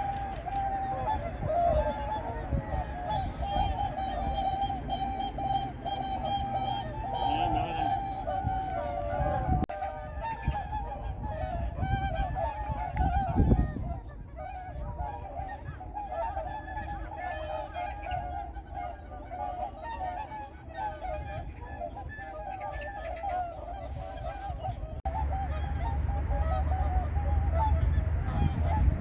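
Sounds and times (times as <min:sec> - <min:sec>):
whooper swans calling: 0:00.0 - 0:29.0.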